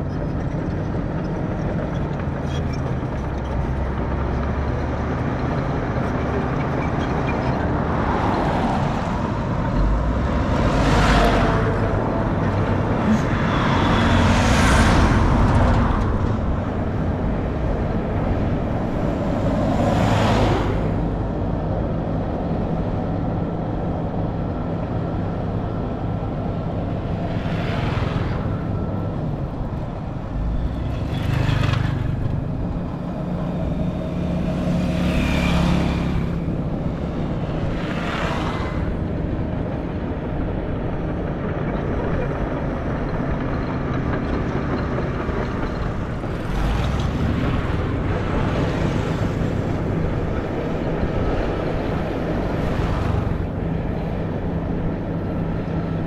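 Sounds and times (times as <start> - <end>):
diesel construction machinery running: 0.0 - 56.0.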